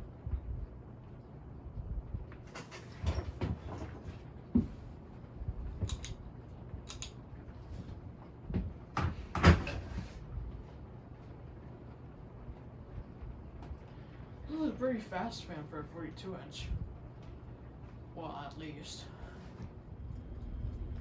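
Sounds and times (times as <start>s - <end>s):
ceiling fan humming: 0.0s - 21.0s.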